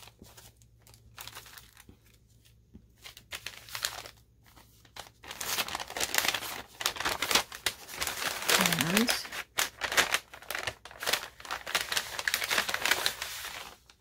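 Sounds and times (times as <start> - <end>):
paper bag crinkling: 0.0 - 14.0.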